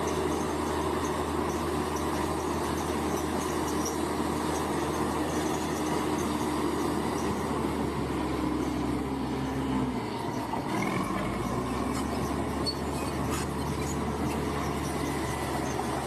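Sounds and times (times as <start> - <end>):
metallic clatter of steel tracks: 0.0 - 7.6, 10.2 - 16.0
bulldozer diesel engine: 0.0 - 16.0.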